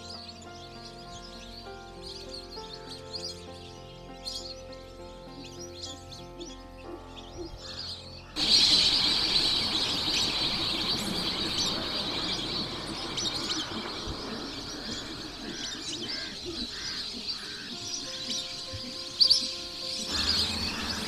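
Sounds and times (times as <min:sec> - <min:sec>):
flock of birds calling: 0:00.0 - 0:21.0
soft low bird calls: 0:00.0 - 0:21.0.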